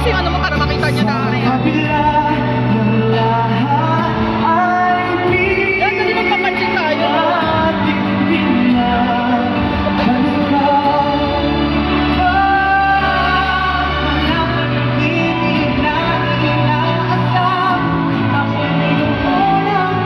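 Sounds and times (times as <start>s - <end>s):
live pop ballad echoing in hall: 0.0s - 20.0s
singers with sustained vocal lines: 0.0s - 20.0s.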